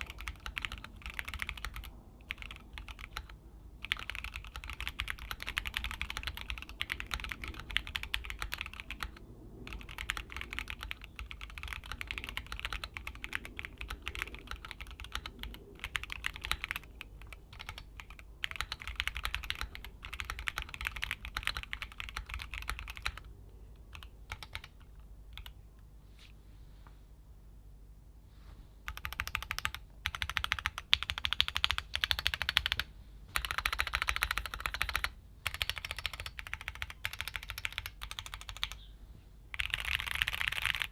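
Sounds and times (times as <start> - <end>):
fast typing on mechanical keyboard: 0.0 - 23.3, 23.9 - 25.6, 28.9 - 38.8, 39.5 - 40.9.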